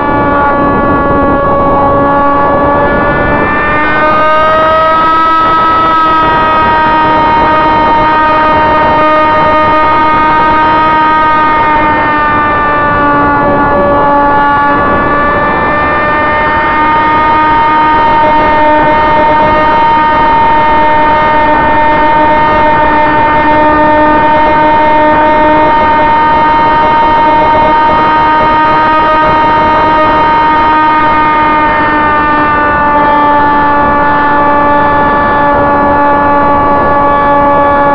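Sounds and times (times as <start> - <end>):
electric motor and propeller whining: 0.0 - 37.9.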